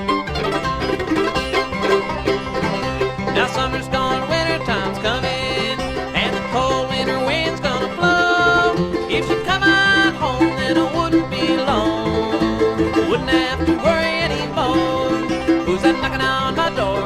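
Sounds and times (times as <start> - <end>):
bluegrass band playing: 0.0 - 17.0.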